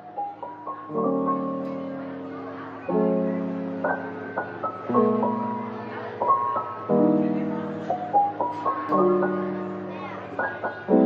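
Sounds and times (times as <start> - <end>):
mellow piano music: 0.0 - 11.0.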